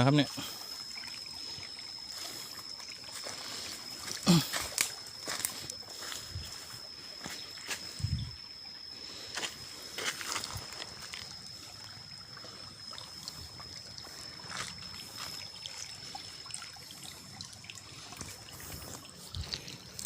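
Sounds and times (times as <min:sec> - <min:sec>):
stream trickling and splashing: 0:00.0 - 0:20.0.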